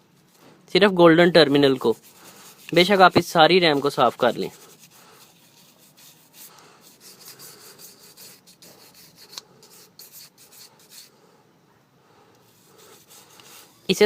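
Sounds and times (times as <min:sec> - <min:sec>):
brush rubbing strokes: 0:00.0 - 0:11.3, 0:12.4 - 0:14.0.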